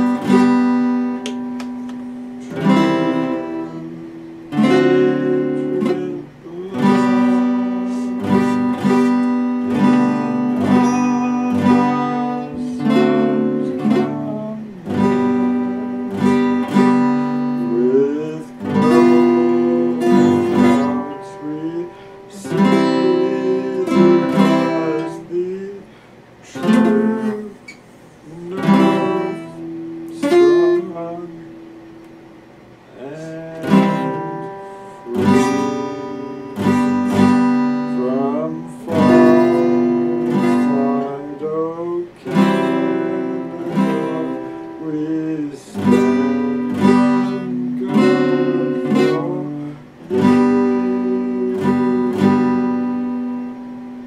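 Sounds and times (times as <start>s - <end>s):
acoustic guitar strummed chords: 0.0s - 54.0s.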